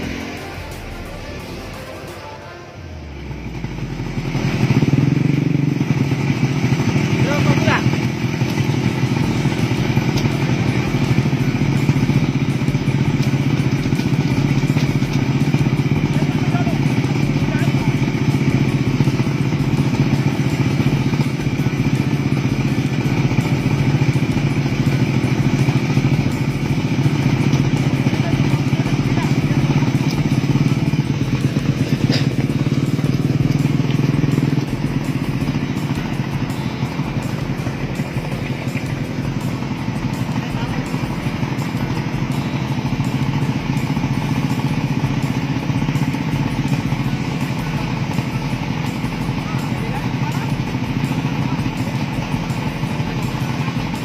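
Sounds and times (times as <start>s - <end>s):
two-stroke engine buzzing: 0.0s - 54.0s.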